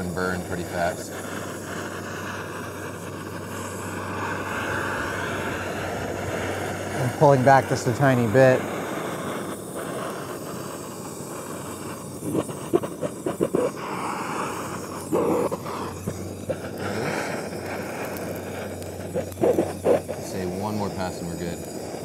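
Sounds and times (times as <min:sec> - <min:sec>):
fat crackling and popping: 0:00.0 - 0:22.0
gas torch hissing: 0:00.0 - 0:22.0.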